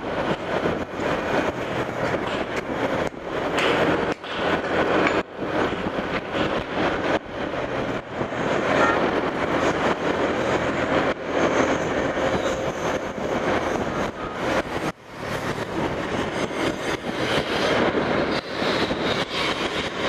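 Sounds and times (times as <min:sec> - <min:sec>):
highway traffic and road noise: 0:00.0 - 0:20.0.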